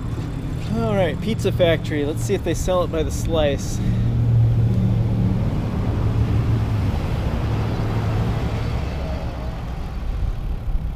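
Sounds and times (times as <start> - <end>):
traffic engine hum: 0.0 - 10.9.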